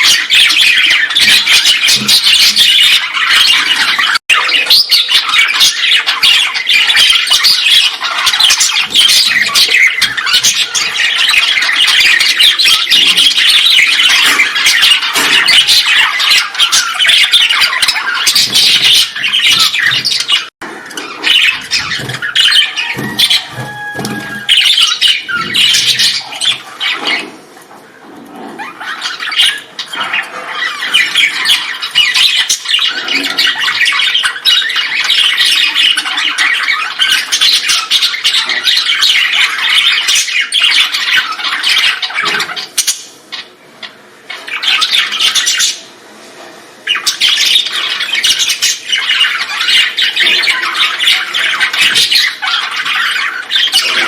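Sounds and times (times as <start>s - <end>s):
colony of birds squawking: 0.0s - 46.0s, 46.8s - 54.0s.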